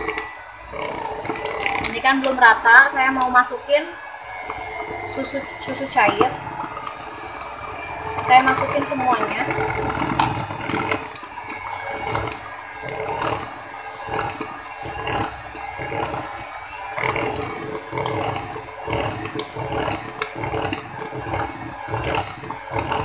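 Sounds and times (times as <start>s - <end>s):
beaters clicking against bowl: 0.0s - 23.0s
electric hand mixer running: 0.0s - 23.0s.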